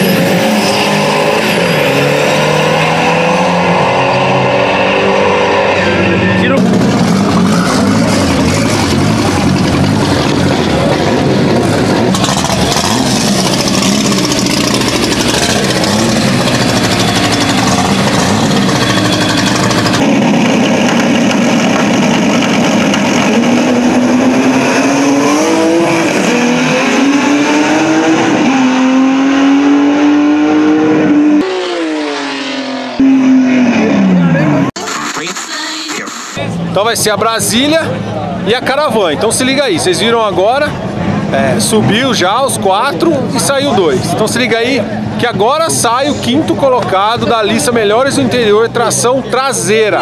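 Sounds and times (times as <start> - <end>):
car accelerating at full throttle: 0.0 - 35.5, 36.4 - 50.0
drag car engines revving: 0.0 - 50.0.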